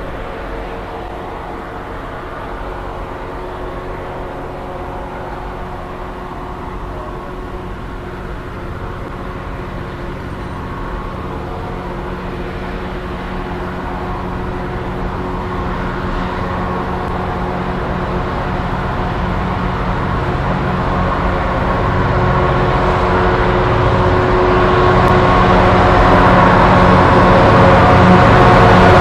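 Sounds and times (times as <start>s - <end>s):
diesel locomotive engine drone: 0.0s - 29.0s.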